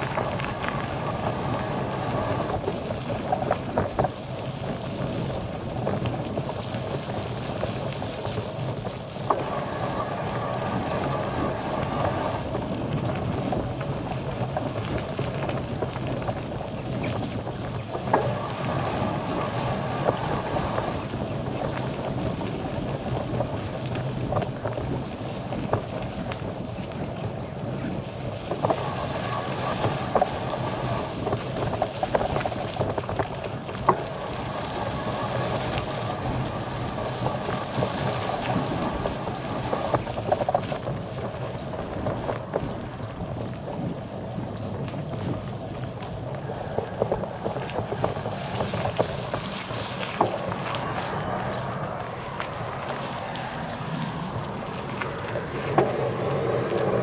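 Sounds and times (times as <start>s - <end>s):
bicycle tyres humming on road: 0.0s - 57.0s
wind on microphone: 0.0s - 57.0s.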